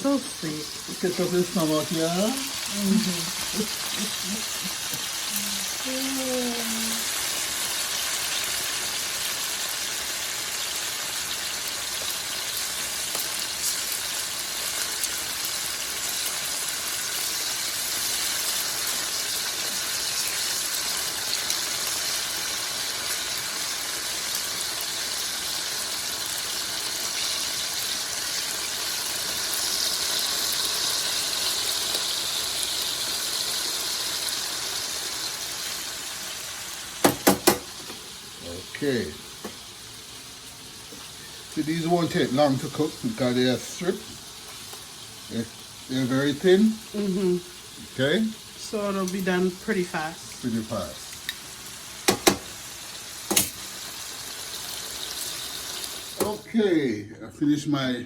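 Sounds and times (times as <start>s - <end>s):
chicken sizzling in hot oil: 0.0s - 56.8s.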